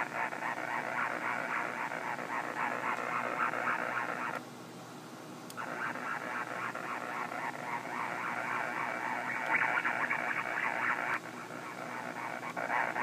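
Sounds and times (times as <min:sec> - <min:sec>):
crackling radio interference hiss: 0:00.0 - 0:13.0.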